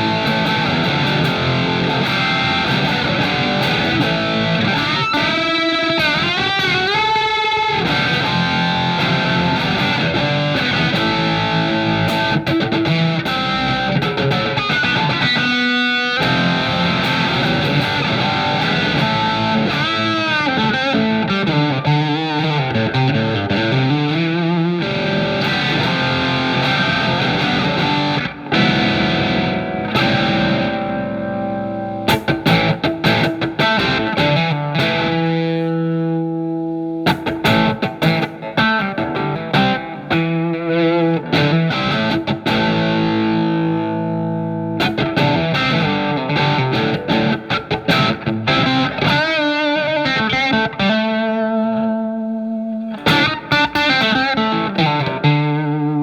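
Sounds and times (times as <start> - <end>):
electric guitar lead lines: 0.0 - 56.0.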